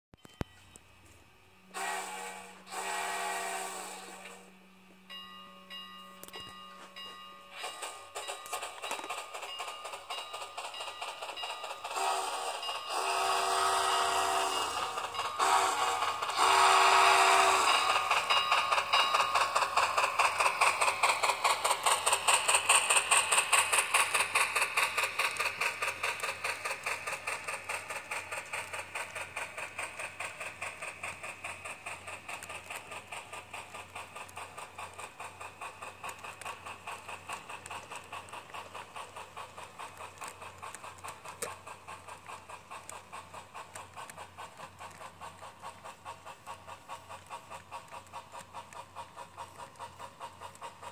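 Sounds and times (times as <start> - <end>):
model train clicking on track: 1.7 - 50.9.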